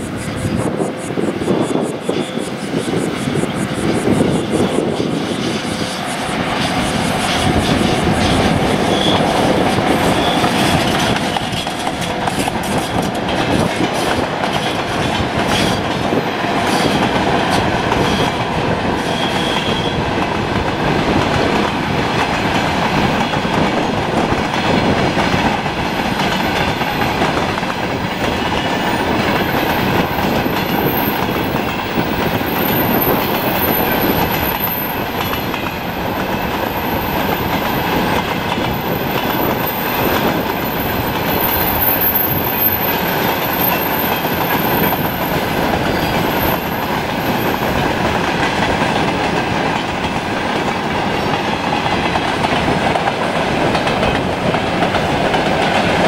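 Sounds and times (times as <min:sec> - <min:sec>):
freight train rumbling past: 0:00.0 - 0:56.0
wheels clicking over rail joints: 0:04.6 - 0:56.0.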